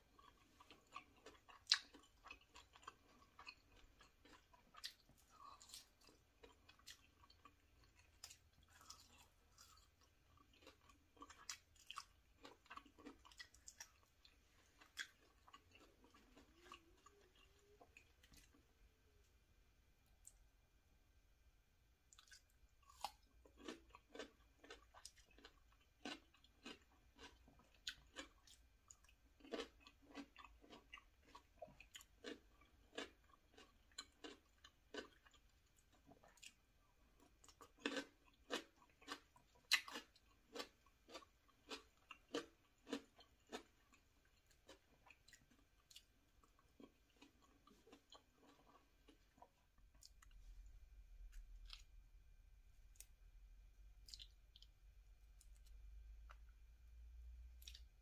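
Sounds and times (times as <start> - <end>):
person chewing crunchy cucumber: 0.0 - 18.7, 22.1 - 52.0, 52.8 - 56.6, 57.5 - 58.0.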